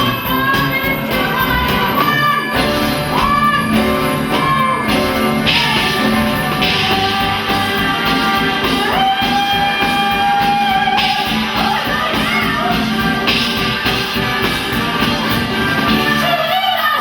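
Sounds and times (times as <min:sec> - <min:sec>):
pop-rock band playing: 0:00.0 - 0:17.0
woman singing: 0:00.0 - 0:17.0.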